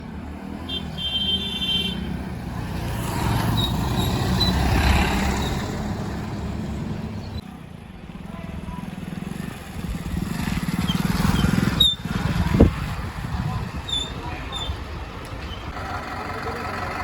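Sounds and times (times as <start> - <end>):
heavy diesel engines running: 0.0 - 17.0.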